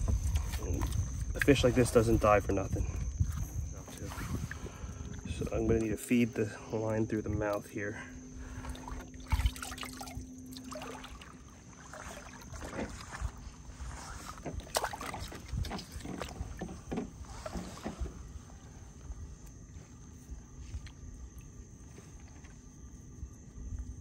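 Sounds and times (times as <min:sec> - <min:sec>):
water sloshing and splashing: 0:00.0 - 0:23.1.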